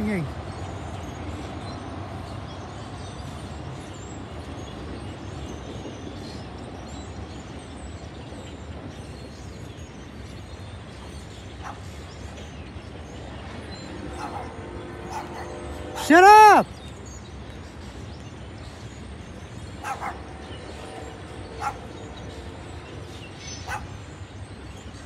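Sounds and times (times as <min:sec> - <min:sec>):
distant freight train rumbling: 0:00.0 - 0:25.0.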